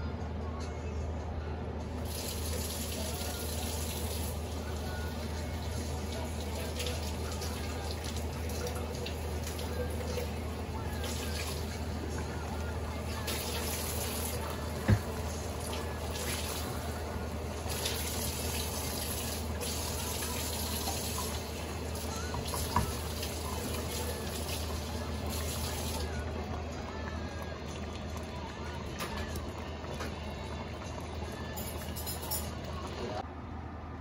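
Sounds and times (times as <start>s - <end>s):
soup bubbling in a pot: 2.0s - 32.9s.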